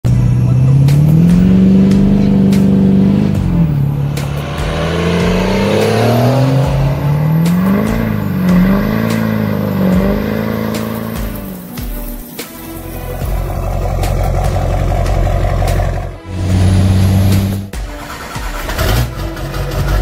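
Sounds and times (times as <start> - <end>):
pickup truck engine revving: 0.0 - 20.0.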